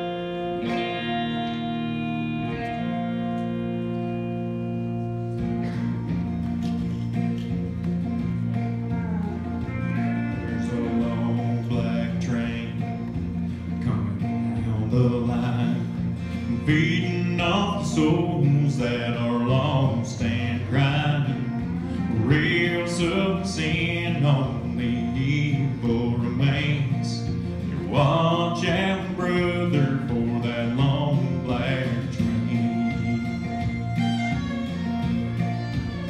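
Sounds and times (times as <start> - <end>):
man singing country song: 0.0 - 5.6, 8.7 - 36.0
guitar accompaniment: 0.0 - 36.0.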